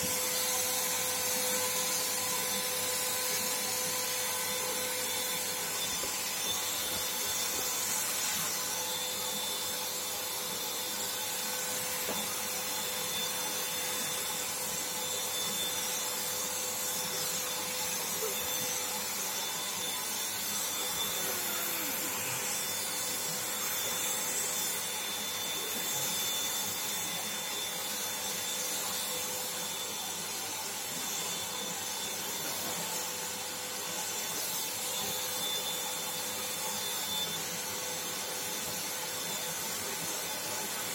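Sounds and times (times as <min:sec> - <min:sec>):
paint sprayer whining: 0:00.0 - 0:35.0.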